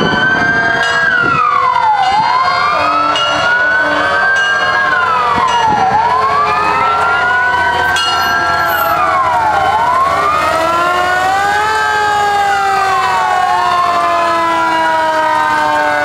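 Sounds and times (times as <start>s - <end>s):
fire truck sirens wailing: 0.0s - 16.0s.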